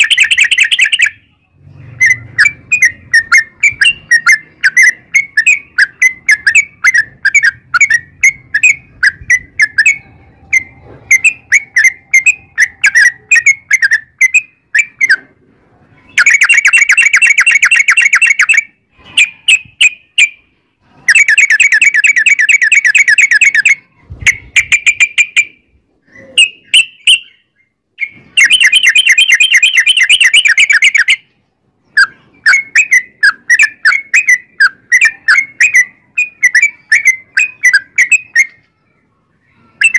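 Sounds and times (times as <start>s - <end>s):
bird whistled song: 0.0s - 15.3s, 16.0s - 20.5s, 21.1s - 39.9s.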